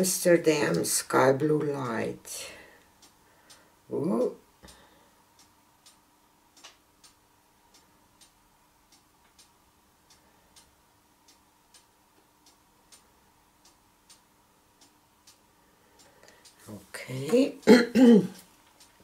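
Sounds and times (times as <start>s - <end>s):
faint steady hum: 0.0s - 19.0s
faint even ticking: 2.2s - 19.0s.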